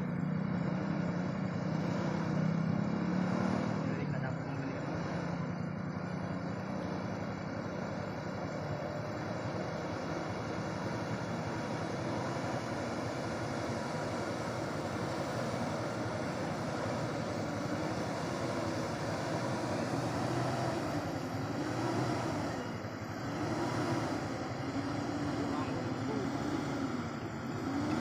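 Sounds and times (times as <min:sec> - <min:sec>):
diesel truck engine under load: 0:00.0 - 0:28.0
road noise: 0:00.0 - 0:28.0.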